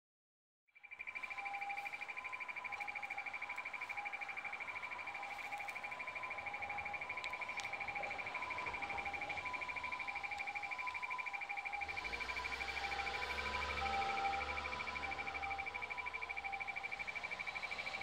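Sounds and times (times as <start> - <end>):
fast-pulsing high electronic beep: 0.8 - 18.0
alternating lower tones: 0.9 - 18.0.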